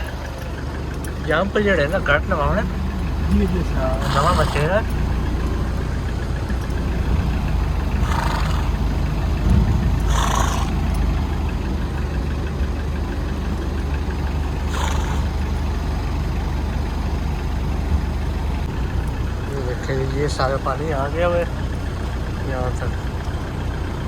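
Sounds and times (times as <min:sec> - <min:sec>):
road rumble: 0:00.0 - 0:24.0
truck engine running: 0:00.0 - 0:24.0.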